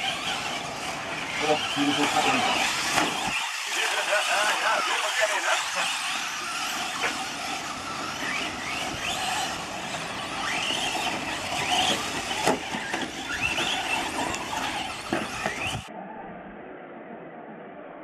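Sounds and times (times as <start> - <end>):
rc truck motors whining: 0.0 - 15.9
tyres rushing on dirt: 0.0 - 15.9.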